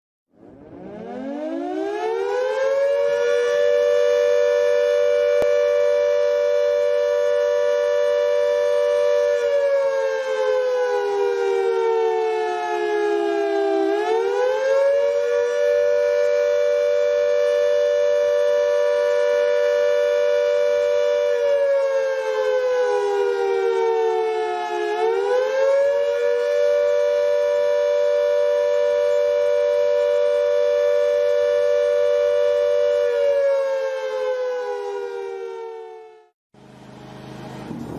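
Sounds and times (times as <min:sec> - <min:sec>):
air raid siren wailing: 0:00.3 - 0:37.9.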